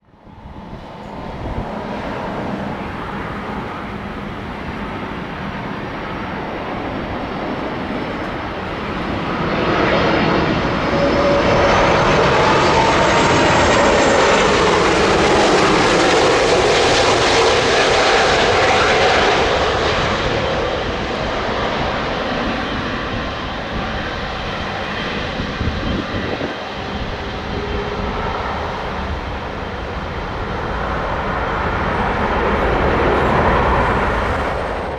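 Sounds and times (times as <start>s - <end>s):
jet airliner roar with whine: 0.0s - 34.9s.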